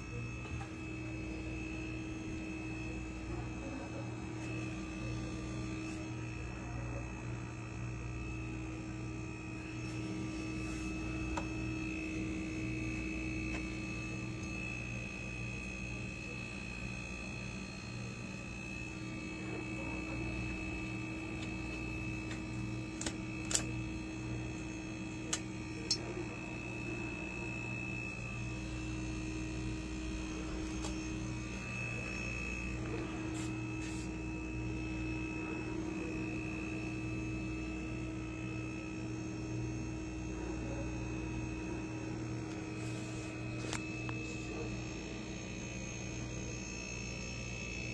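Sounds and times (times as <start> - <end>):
refrigerator humming: 0.0 - 47.9.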